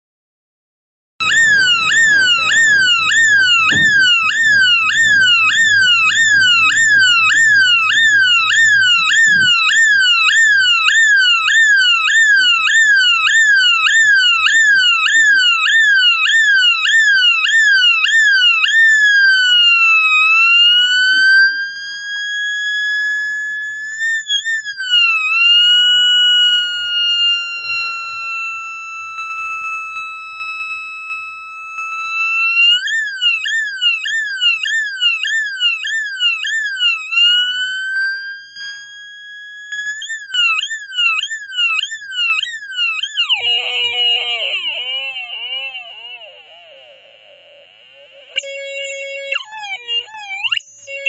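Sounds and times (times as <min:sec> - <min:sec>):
electronic police siren: 0:01.2 - 0:51.0.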